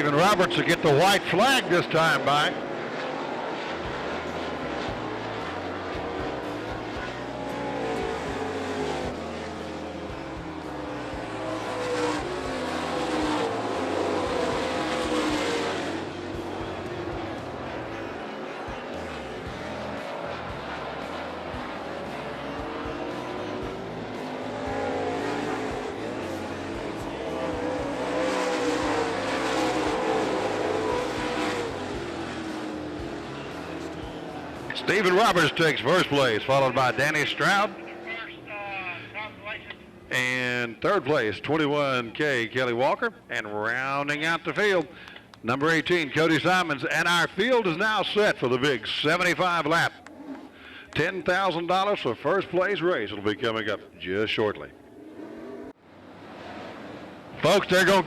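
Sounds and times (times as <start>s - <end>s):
race car engines roaring past: 0.0s - 58.0s.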